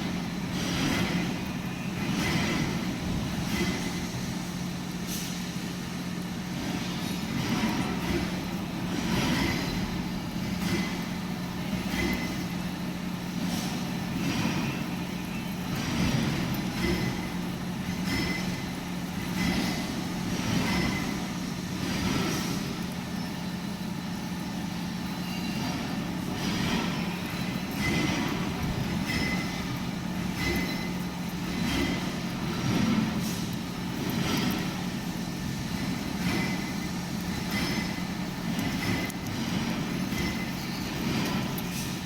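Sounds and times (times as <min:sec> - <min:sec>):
milling machine motor hum: 0:00.0 - 0:42.0.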